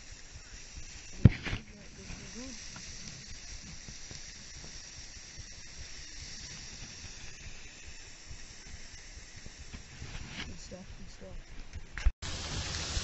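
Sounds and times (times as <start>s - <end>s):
fish sizzling on a hotplate: 0.0s - 10.0s, 12.2s - 13.0s.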